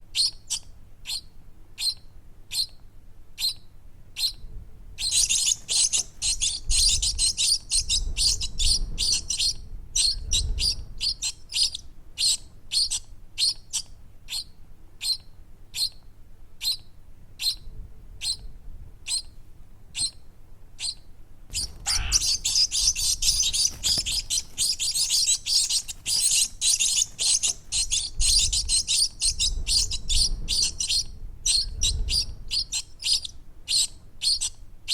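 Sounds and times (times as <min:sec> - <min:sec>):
baby birds chirping: 0:00.1 - 0:02.8, 0:03.4 - 0:03.6, 0:04.2 - 0:04.4, 0:05.0 - 0:16.0, 0:16.6 - 0:16.8, 0:17.4 - 0:17.6, 0:20.8 - 0:34.9.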